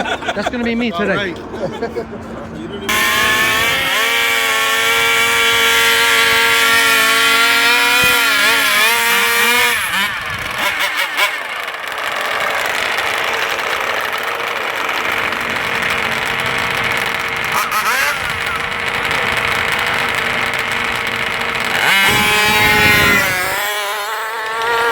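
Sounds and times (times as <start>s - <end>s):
small two-stroke engine revving: 2.9s - 24.9s.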